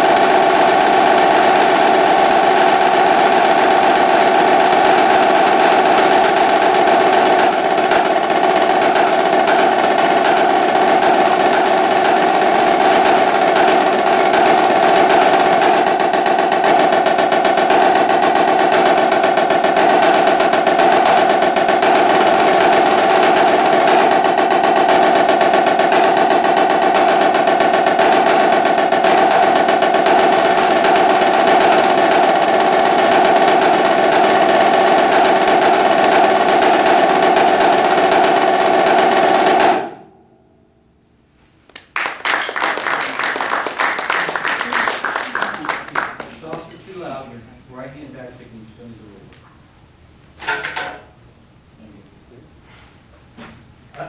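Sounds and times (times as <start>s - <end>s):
snare drum rolls: 0.0s - 40.2s, 41.8s - 47.4s, 50.4s - 51.2s.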